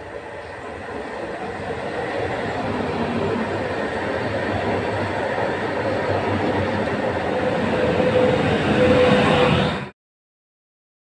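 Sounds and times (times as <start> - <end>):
electric train arriving: 0.0 - 9.9.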